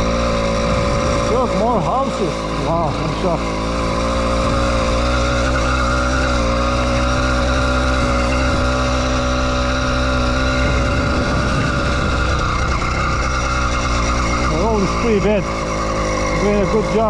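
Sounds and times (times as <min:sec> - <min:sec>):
two-stroke bicycle engine running: 0:00.0 - 0:17.0.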